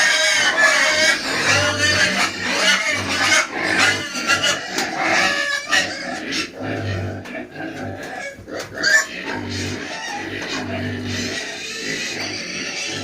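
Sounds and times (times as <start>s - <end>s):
piglets squealing and grunting: 0.0s - 13.0s.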